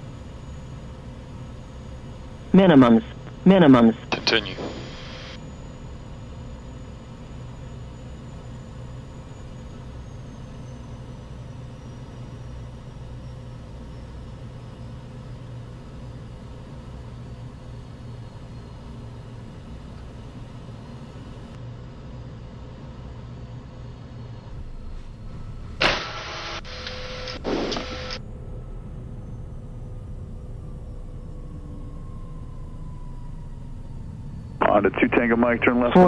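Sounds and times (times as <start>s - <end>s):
high jet engine whine: 0.0s - 21.6s, 24.2s - 36.0s
cockpit airflow hum: 0.0s - 36.0s.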